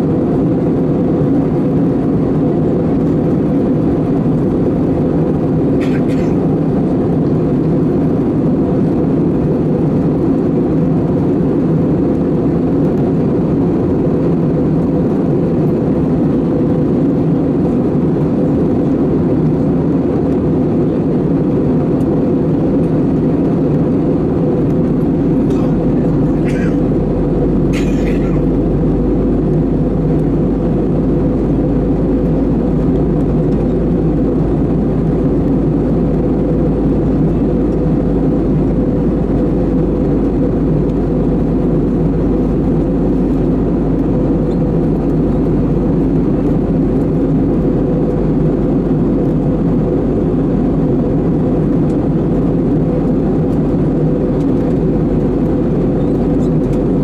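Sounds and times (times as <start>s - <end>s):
airplane cabin engine and airflow noise: 0.0s - 57.0s
deep low rumble: 0.0s - 57.0s
steady hum: 0.0s - 57.0s.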